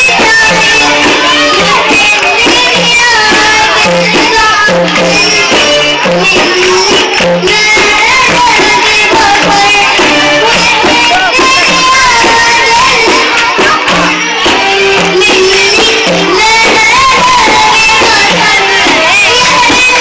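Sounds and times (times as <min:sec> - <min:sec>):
girl singing with vibrato: 0:00.0 - 0:20.0
instrumental backing track: 0:00.0 - 0:20.0
percussion beat: 0:00.0 - 0:20.0.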